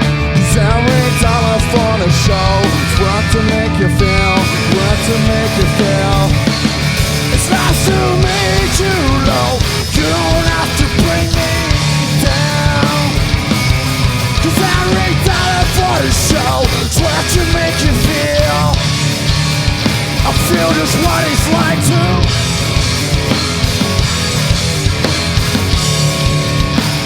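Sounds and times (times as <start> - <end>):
bending lead guitar line: 0.0 - 27.0
live rock band playing: 0.0 - 27.0.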